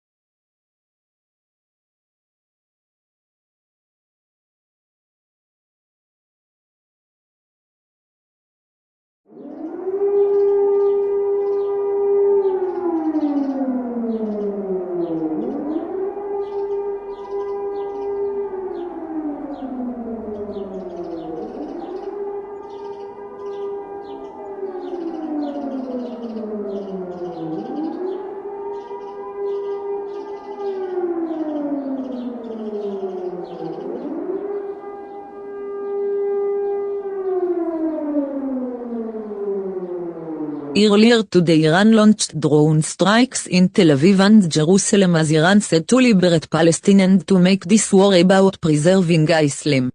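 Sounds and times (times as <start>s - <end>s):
warning siren wailing: 9.3s - 49.9s.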